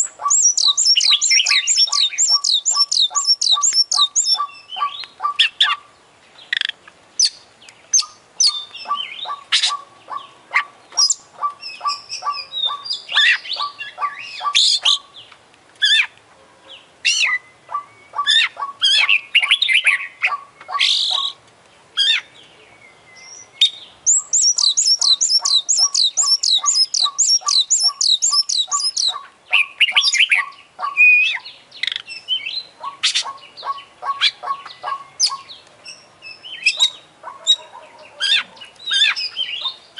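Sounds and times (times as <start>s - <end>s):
bird singing: 0.0s - 39.9s
low bird pip: 0.0s - 39.9s.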